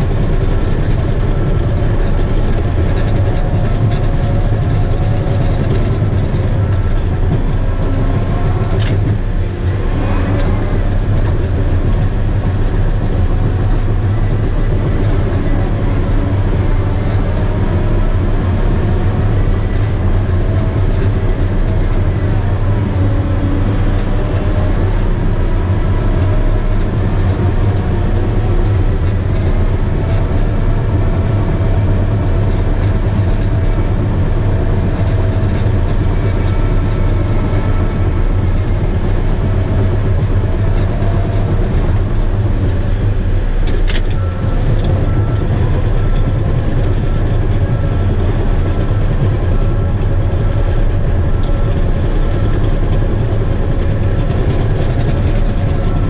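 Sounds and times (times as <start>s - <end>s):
bulldozer engine running: 0.0s - 56.0s
steel tracks clanking and squealing: 0.0s - 56.0s.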